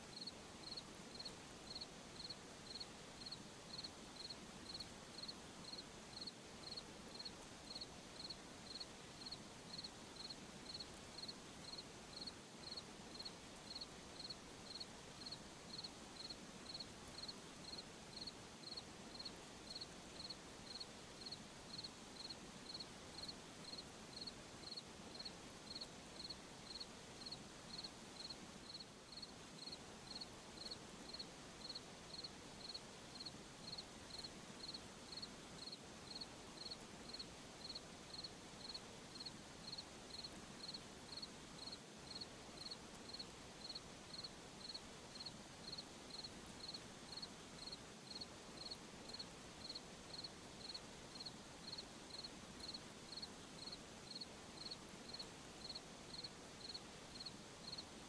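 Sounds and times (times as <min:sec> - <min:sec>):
night ambience hiss: 0:00.0 - 0:58.0
cricket chirping: 0:00.1 - 0:57.8.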